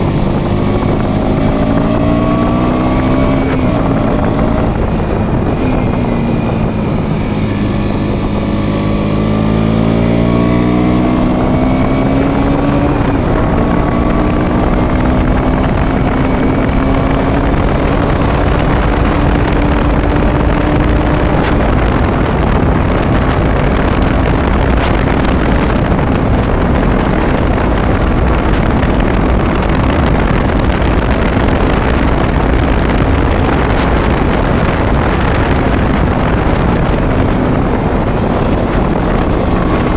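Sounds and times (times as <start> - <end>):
motorcycle engine revving: 0.0 - 39.9
wind noise on microphone: 0.0 - 39.9.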